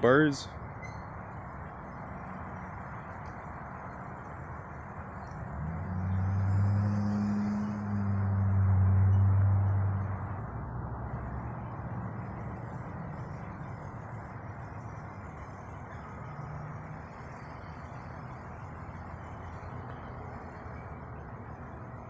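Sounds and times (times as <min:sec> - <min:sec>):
distant traffic rumble: 0:00.0 - 0:22.0.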